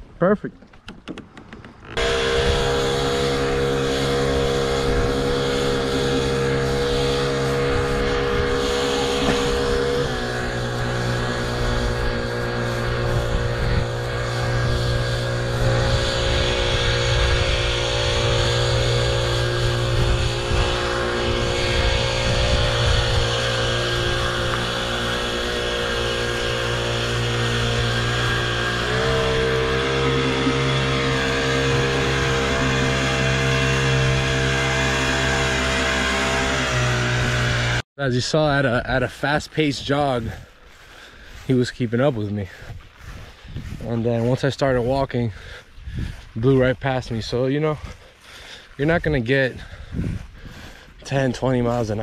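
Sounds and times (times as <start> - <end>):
small outboard motor running: 1.1 - 37.8, 40.2 - 41.5, 42.5 - 44.4, 45.3 - 46.3, 47.2 - 52.0.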